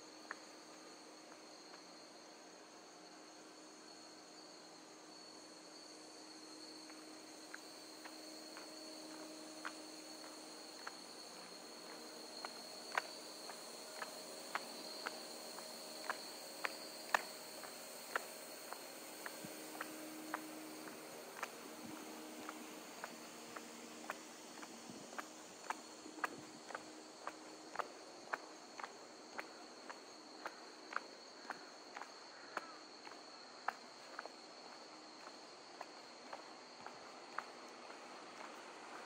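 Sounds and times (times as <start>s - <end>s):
crickets trilling: 0.0s - 39.0s
crisp footsteps: 6.9s - 39.0s.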